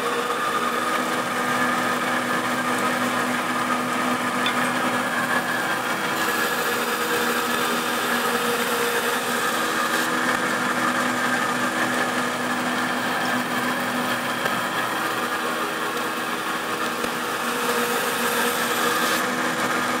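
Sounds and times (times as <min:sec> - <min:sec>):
belt grinder humming: 0:00.0 - 0:20.0.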